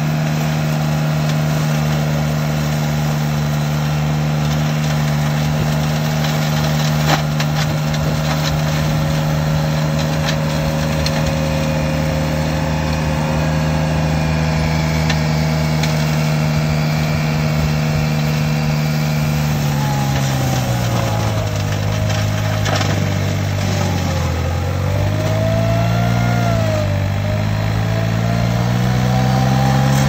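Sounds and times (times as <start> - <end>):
brush cutter engine running: 0.0 - 30.0.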